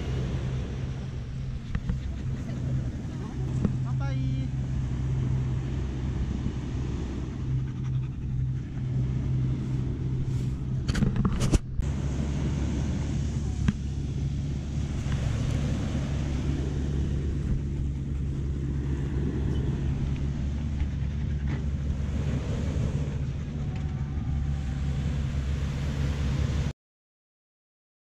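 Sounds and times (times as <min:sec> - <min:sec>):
ocean surf washing: 0:00.0 - 0:26.7
wind rumble on microphone: 0:00.0 - 0:26.7.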